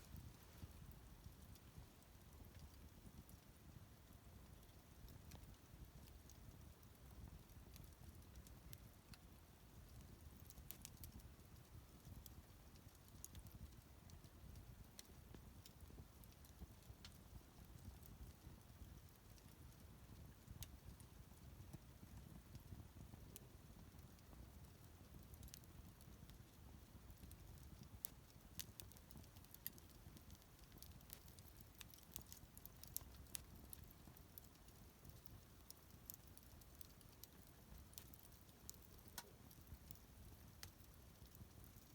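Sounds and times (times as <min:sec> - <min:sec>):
bonfire crackling and popping: 0:00.0 - 0:41.9
low fire rumble: 0:00.0 - 0:41.9.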